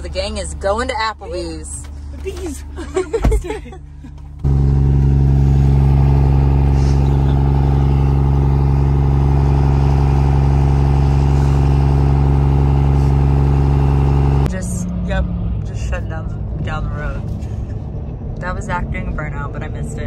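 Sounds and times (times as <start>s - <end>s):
diesel engine at high revs: 0.0s - 20.0s.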